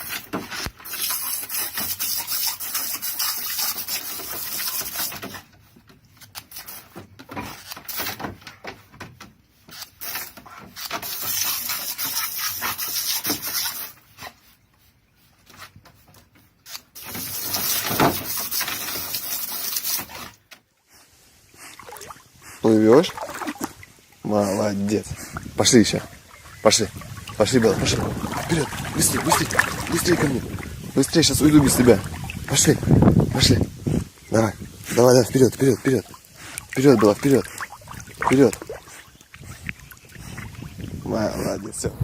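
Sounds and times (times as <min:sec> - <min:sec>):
water spraying and splashing: 0:00.0 - 0:05.5, 0:06.4 - 0:08.4, 0:09.7 - 0:14.5, 0:16.6 - 0:41.8.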